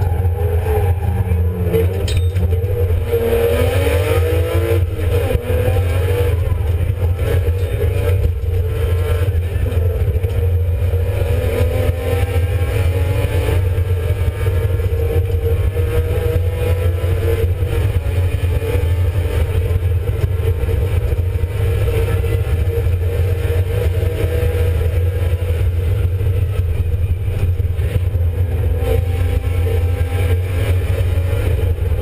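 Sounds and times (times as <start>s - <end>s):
car engine accelerating hard: 0.0s - 32.0s
steady low drone: 0.0s - 32.0s.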